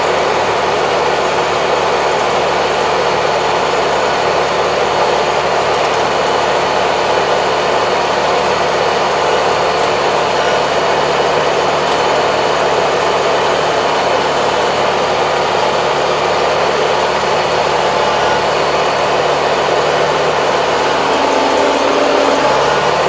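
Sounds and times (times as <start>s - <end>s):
tractor engine drone: 0.0s - 23.0s.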